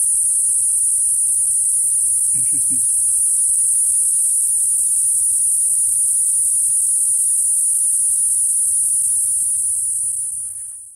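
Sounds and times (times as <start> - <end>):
cicada singing: 0.0 - 10.9.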